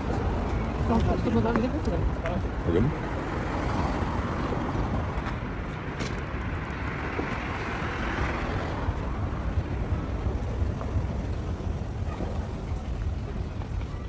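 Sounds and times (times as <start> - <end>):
car passing: 0.0 - 14.0
street traffic: 0.0 - 14.0
wind on microphone: 0.0 - 14.0.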